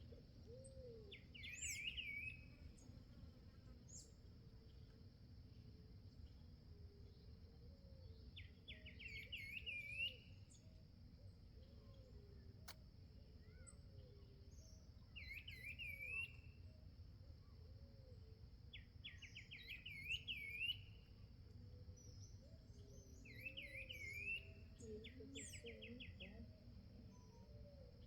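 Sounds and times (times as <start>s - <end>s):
songbird chirping: 0.0s - 5.6s, 6.2s - 28.0s.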